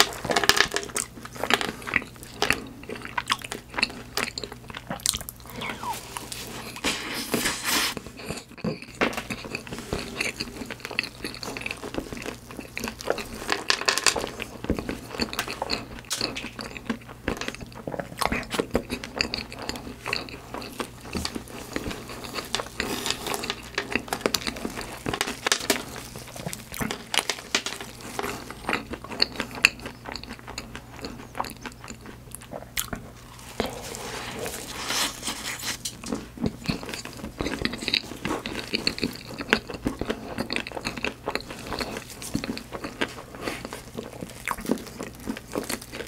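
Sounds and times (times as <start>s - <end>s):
chewing and crunching pastry: 0.0s - 46.0s.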